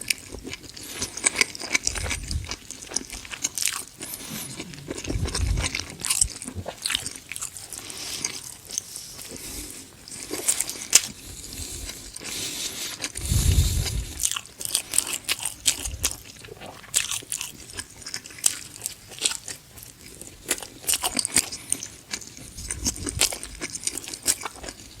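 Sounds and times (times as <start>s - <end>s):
chewing crunchy pizza crust: 0.0s - 25.0s.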